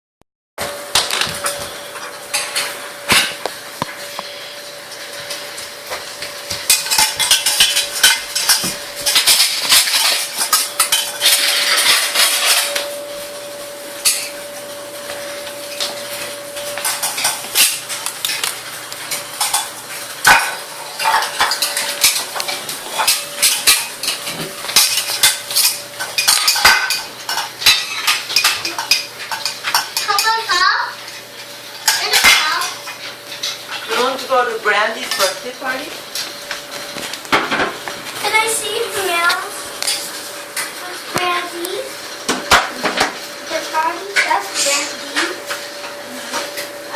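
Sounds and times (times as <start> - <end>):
dishes and cutlery clattering: 5.0 - 13.1, 13.9 - 41.4, 42.3 - 46.8.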